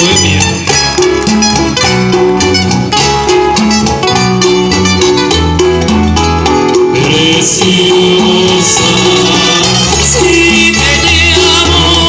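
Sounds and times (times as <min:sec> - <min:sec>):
bass line: 0:00.0 - 0:12.0
plucked guitar notes: 0:00.0 - 0:12.0.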